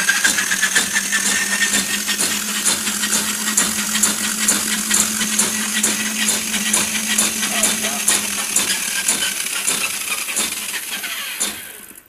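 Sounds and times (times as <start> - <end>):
drain-cleaning machine motor humming: 0.0 - 12.0.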